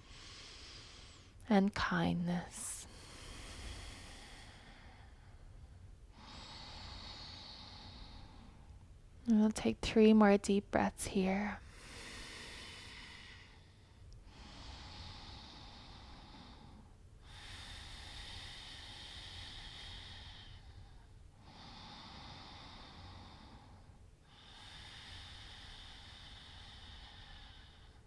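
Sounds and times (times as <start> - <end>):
deep breaths through nose: 0.0 - 1.4, 2.8 - 8.8, 11.6 - 28.0.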